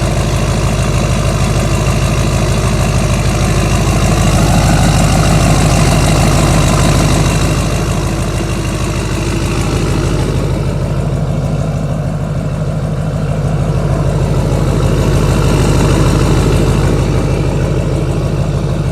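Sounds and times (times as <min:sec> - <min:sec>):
diesel engine idling: 0:00.0 - 0:18.9.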